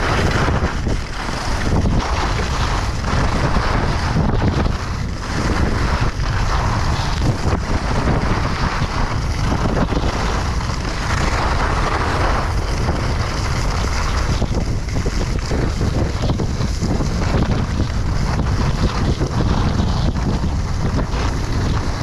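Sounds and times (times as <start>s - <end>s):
skis running on snow: 0.0s - 22.0s
wind buffeting microphone: 0.0s - 22.0s.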